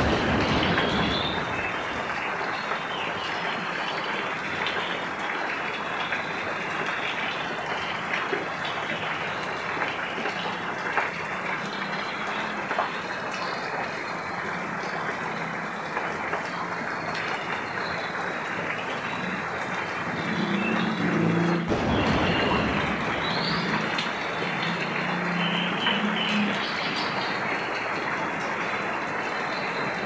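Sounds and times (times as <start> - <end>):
raindrops hitting close by: 0.0 - 30.0
steady rain: 0.0 - 30.0.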